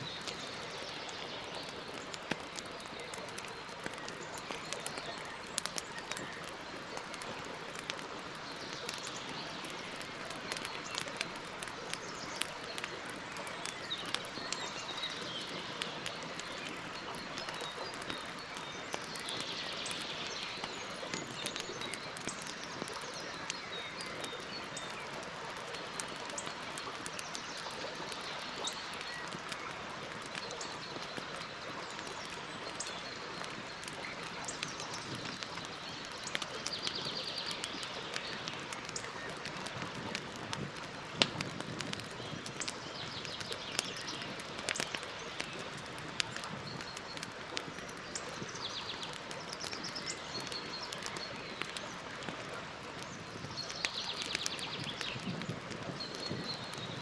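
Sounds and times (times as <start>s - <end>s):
birds chirping faintly: 0.0s - 57.0s
campfire crackling: 0.0s - 57.0s.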